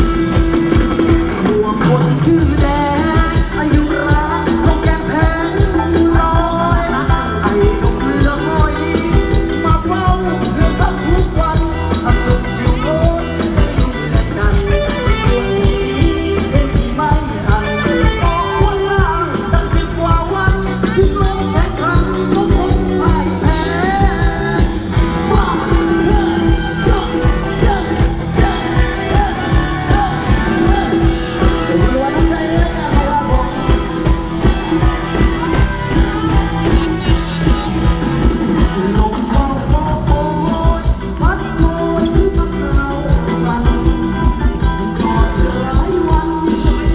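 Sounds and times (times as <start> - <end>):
fast steady drum beat: 0.0 - 46.9
live band dance music over pa: 0.0 - 46.9
person singing: 0.0 - 46.9.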